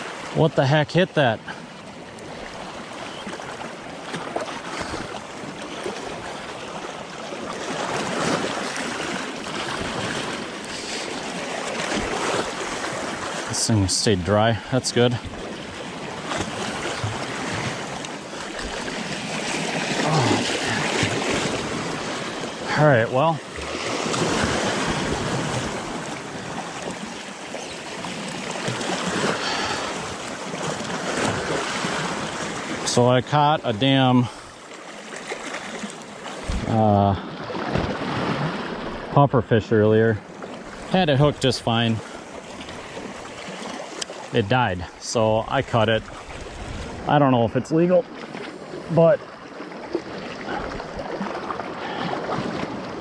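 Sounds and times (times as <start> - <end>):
seawater sloshing and splashing: 0.0 - 39.3, 40.0 - 53.0
surf washing around: 0.0 - 53.0.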